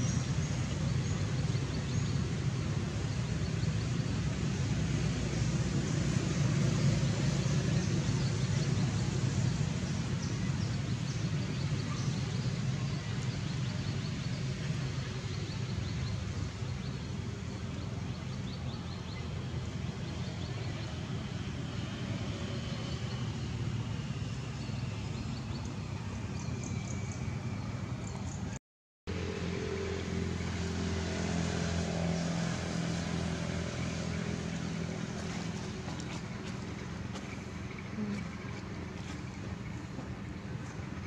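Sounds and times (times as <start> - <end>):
low outdoor background rumble: 0.0 - 41.0.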